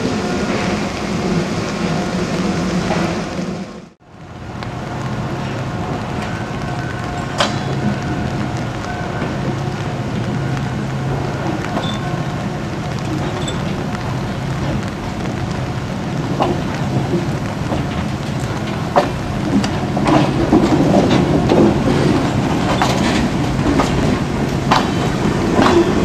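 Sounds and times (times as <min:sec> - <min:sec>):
boxcar rolling on track: 0:00.0 - 0:26.0
diesel locomotive engine droning: 0:00.0 - 0:26.0
rain: 0:00.0 - 0:26.0.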